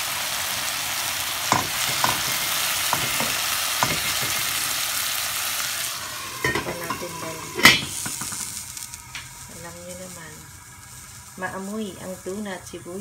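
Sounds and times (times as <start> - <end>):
food sizzling in oil in a pan: 0.0 - 13.0.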